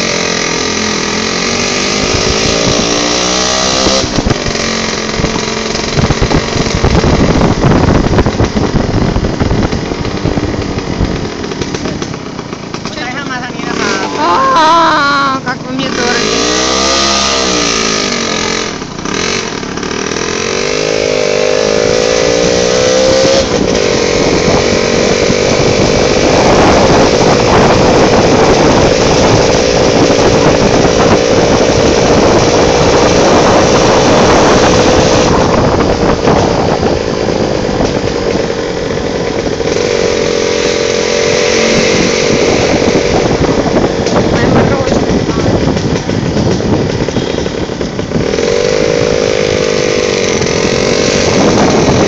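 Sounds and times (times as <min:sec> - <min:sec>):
broad rushing noise: 0:00.0 - 0:52.0
motorcycle engine running: 0:00.0 - 0:52.0.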